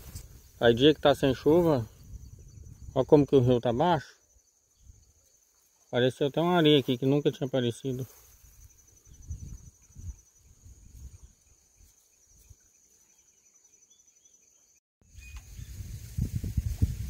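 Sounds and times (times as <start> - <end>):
high insect trill: 0.0 - 14.8.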